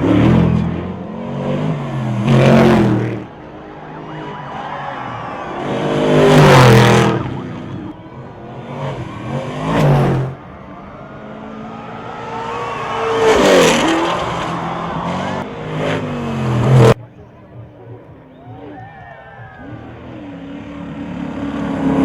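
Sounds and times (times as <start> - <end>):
racing vehicle engines passing: 0.0 - 22.0.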